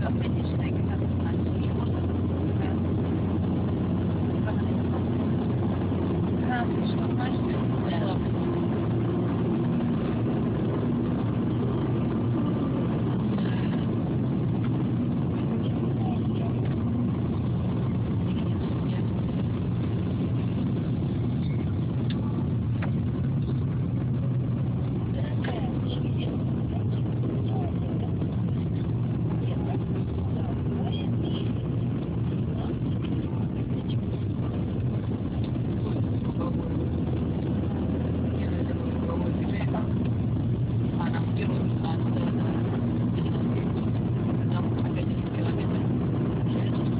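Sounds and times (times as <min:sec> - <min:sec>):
car road and engine noise: 0:00.0 - 0:46.9.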